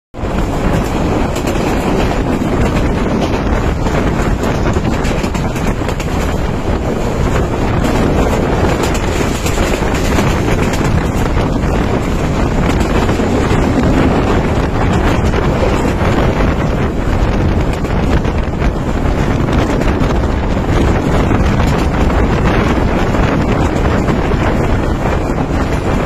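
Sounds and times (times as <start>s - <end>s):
train running on rails: 0.2s - 26.0s
wind buffeting microphone: 0.2s - 26.0s.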